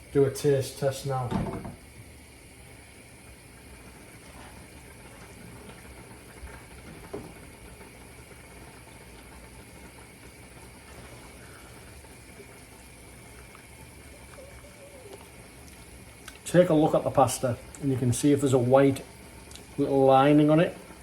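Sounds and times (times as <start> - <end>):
water boiling in a pot: 0.0 - 21.0.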